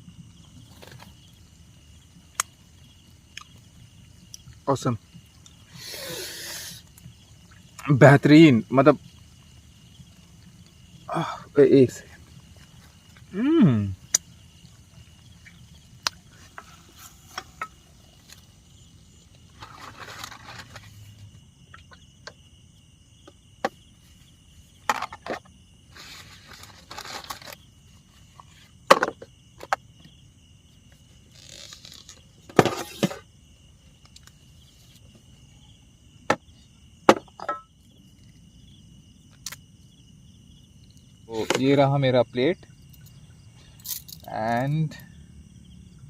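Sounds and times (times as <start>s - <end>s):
crickets and insects chirring: 0.0s - 46.0s.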